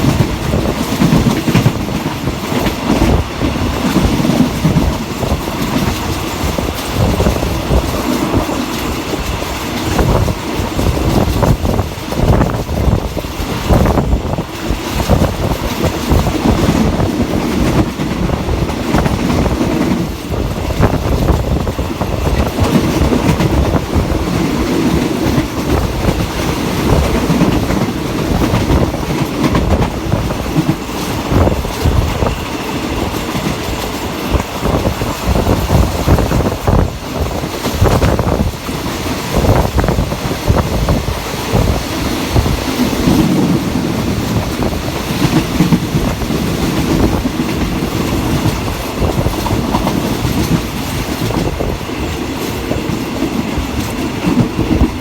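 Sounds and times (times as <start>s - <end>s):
train carriages rumbling: 0.0s - 55.0s
wheels clacking over rail joints: 0.0s - 55.0s.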